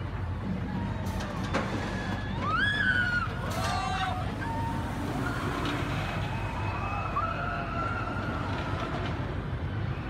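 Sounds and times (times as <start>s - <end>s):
roller coaster low roar: 0.0s - 10.0s.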